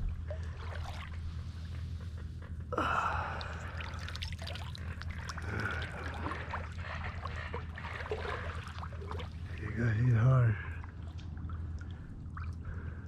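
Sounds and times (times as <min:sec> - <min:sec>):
shallow water splashing: 0:00.0 - 0:01.9, 0:03.0 - 0:13.0.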